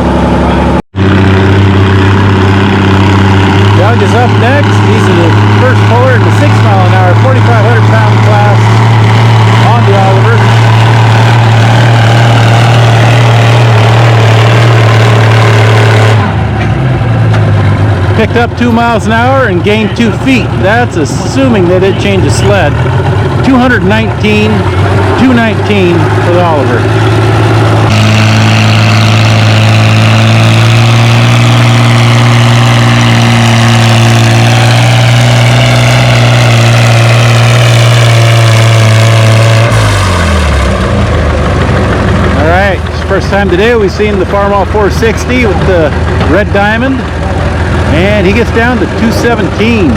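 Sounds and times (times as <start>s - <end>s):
tractor engine at full throttle: 0.0s - 49.9s.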